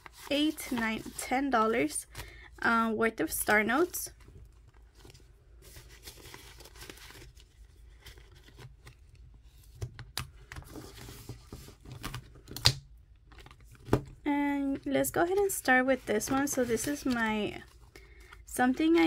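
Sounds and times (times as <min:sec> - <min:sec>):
paper bills and plastic crinkling: 0:00.0 - 0:02.5, 0:03.2 - 0:12.6, 0:13.2 - 0:19.0.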